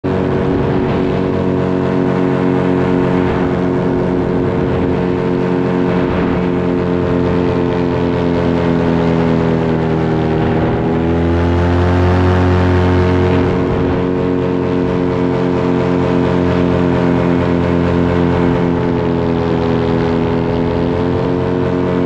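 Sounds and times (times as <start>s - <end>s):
paramotor engine and propeller: 0.0s - 22.0s
wind noise: 0.0s - 22.0s.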